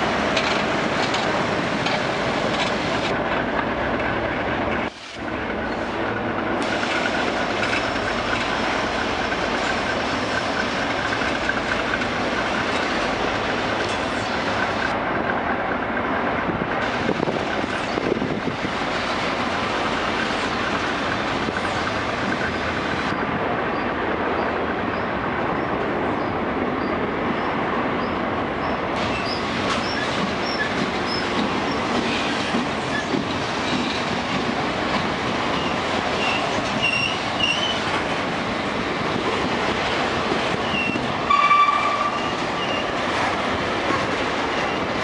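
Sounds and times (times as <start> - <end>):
train wheels clattering on rails: 0.0 - 27.0, 28.0 - 45.0.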